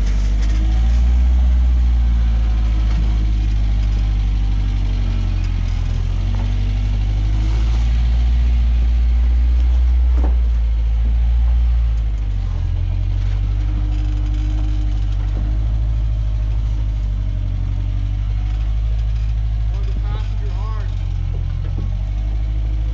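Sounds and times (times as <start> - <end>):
engine crawling over rocks: 0.0 - 22.9.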